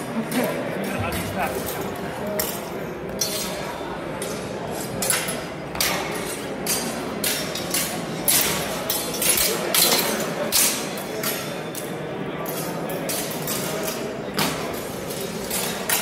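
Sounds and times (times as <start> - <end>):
steel swords clashing: 1.5 - 16.0.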